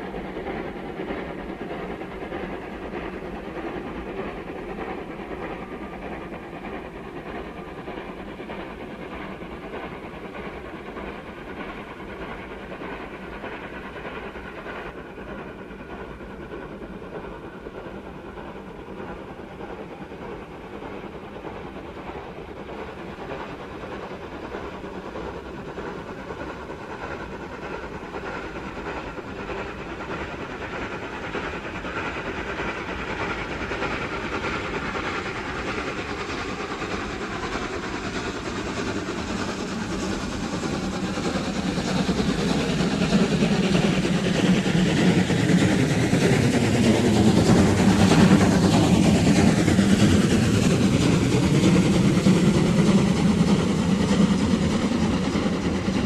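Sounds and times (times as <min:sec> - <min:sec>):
steam locomotive hauling train: 0:00.0 - 0:56.0.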